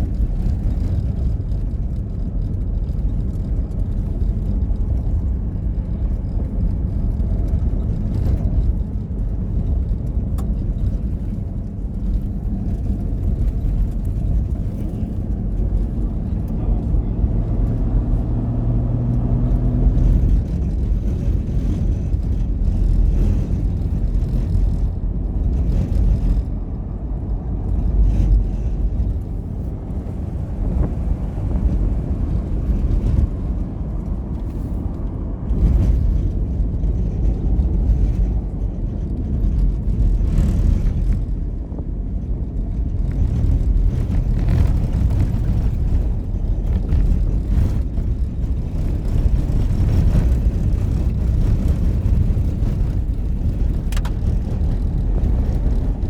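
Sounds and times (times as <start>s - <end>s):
engine hum: 0.0s - 56.0s
vehicle engine and road rumble: 0.0s - 56.0s.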